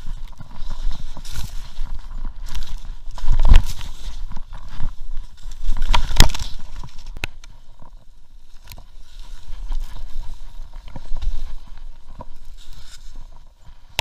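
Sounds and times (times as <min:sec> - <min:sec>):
skis crunching through snow: 0:00.0 - 0:14.0.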